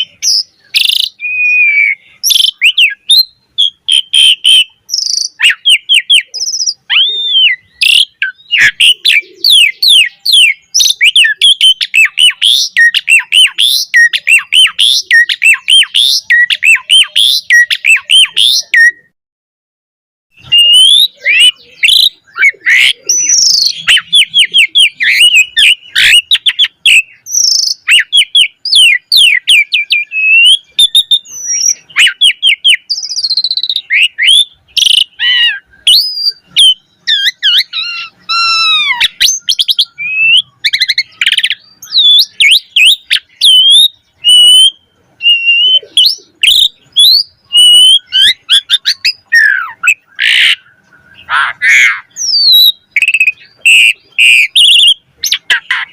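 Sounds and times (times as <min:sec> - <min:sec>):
starling singing varied song: 0:00.0 - 0:19.1, 0:20.3 - 0:55.9.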